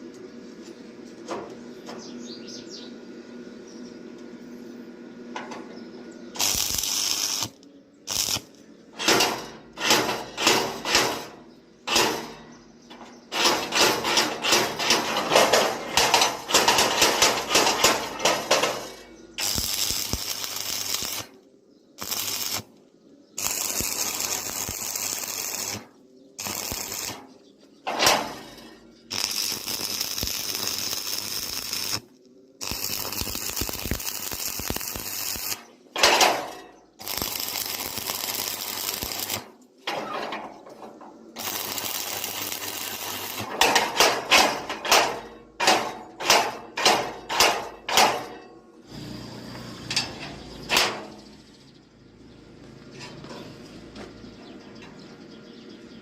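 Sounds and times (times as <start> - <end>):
arc welding crackling: 6.2 - 51.4.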